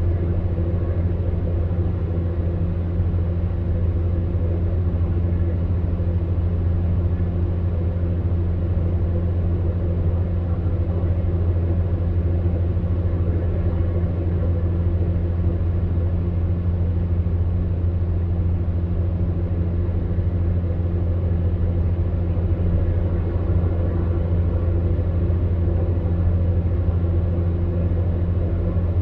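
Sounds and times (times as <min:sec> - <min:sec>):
fan heater humming: 0:00.0 - 0:29.0.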